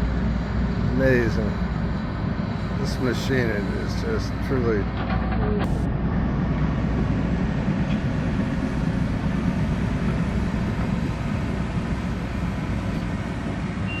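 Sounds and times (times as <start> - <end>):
excavator engine rumbling: 0.0 - 14.0.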